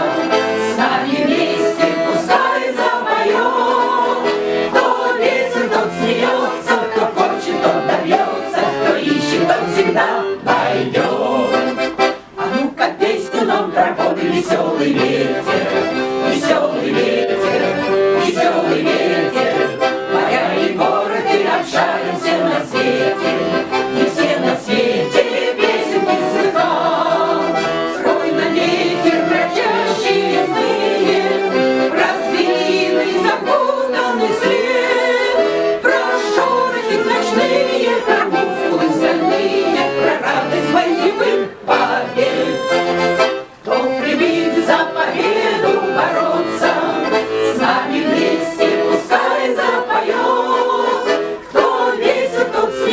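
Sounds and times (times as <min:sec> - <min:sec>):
accordion playing lively melody: 0:00.0 - 0:52.9.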